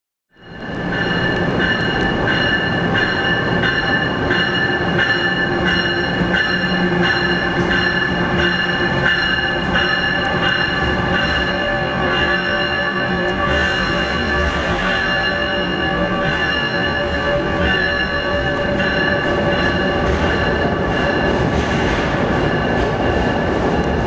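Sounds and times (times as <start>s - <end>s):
electric train moving slowly: 0.3s - 24.0s
pulsing bell ringing: 0.4s - 21.5s, 22.4s - 24.0s.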